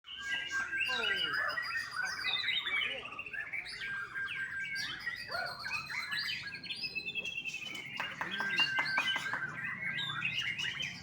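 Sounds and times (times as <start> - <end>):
bird singing whistles and trills: 0.1 - 11.0.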